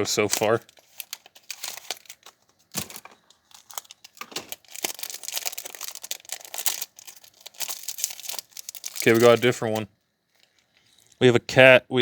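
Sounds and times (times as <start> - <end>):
candy packaging crinkling and tearing: 0.0 - 11.2.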